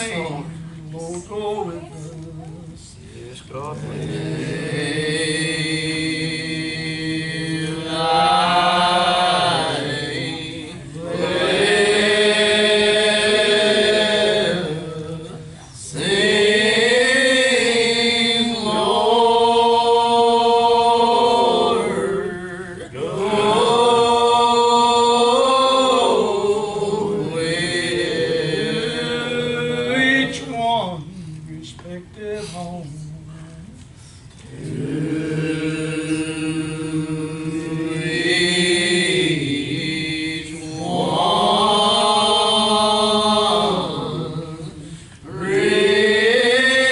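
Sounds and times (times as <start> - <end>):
hymn singing: 0.0 - 33.8, 34.5 - 46.9.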